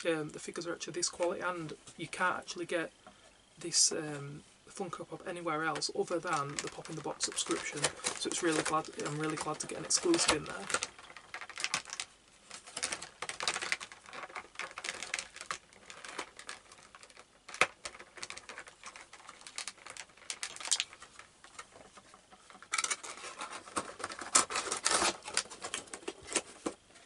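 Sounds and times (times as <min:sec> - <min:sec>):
plastic packaging crinkling: 0:05.2 - 0:27.0.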